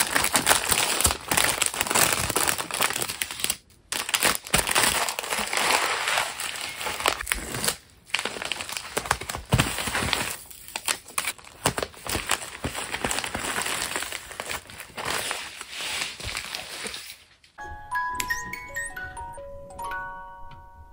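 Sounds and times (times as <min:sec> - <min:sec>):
packaging crinkling and rustling: 0:00.0 - 0:17.6.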